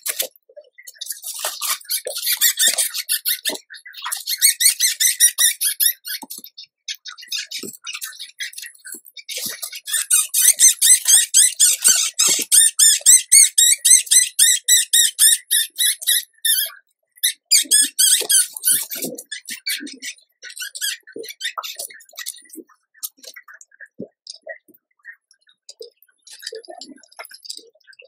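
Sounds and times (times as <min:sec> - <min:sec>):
rodent pups squeaking: 0:00.0 - 0:24.5.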